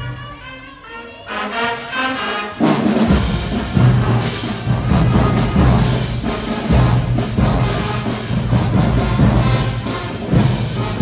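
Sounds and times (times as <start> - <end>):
brass holding notes: 0.0 - 11.0
marching band playing: 0.0 - 11.0
drums: 1.8 - 11.0.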